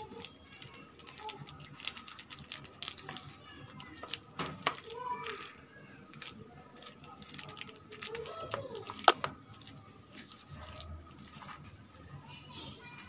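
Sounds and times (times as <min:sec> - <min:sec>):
hand patting soft mixture: 0:00.0 - 0:12.2.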